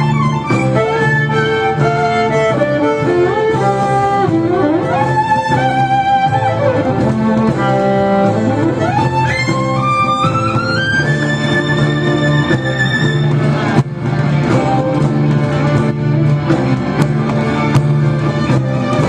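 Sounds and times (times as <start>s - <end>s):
low accompaniment: 0.0s - 19.0s
violin melody: 0.0s - 19.0s.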